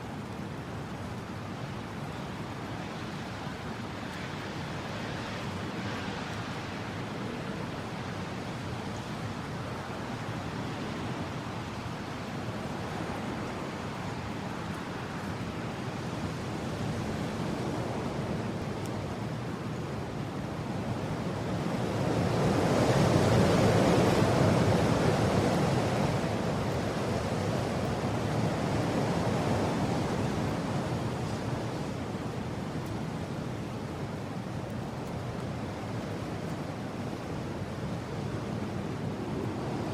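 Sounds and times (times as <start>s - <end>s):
wind blowing in gusts: 0.0s - 39.9s.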